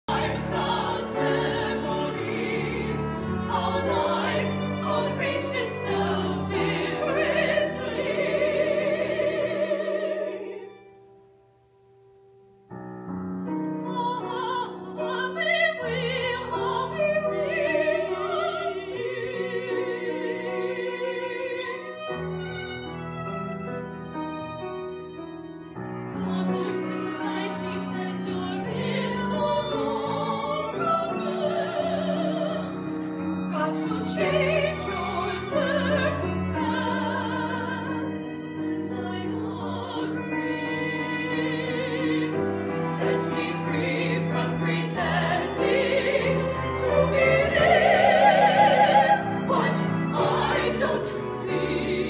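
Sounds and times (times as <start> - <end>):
women singing operatic: 0.0 - 10.8, 13.8 - 22.1, 26.2 - 52.0
piano accompaniment: 0.0 - 52.0.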